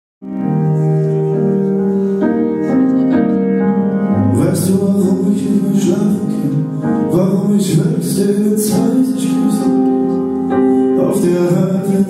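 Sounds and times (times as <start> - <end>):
keyboard piano chords: 0.2 - 12.0.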